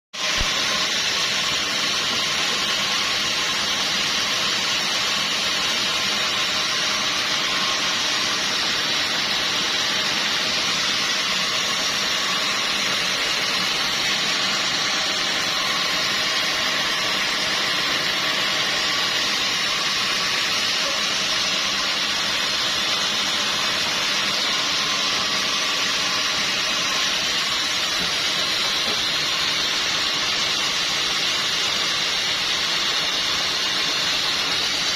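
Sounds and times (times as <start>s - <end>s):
sawmill machinery hissing: 0.2s - 34.9s.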